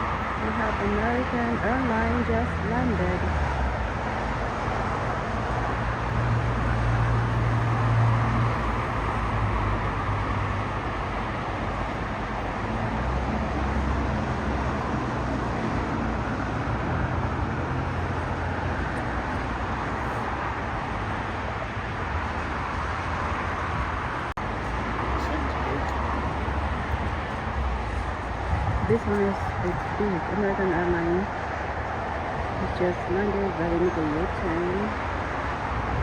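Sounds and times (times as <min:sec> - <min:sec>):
airliner jet engines roaring: 0:00.0 - 0:34.8.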